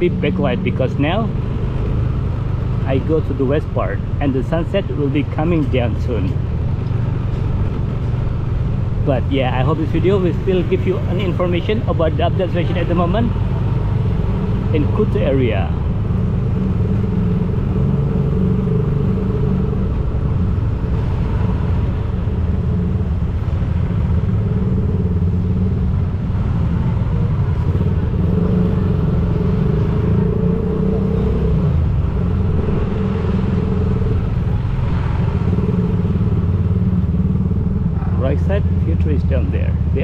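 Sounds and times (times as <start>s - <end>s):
vehicle engine and road rumble: 0.0s - 40.0s.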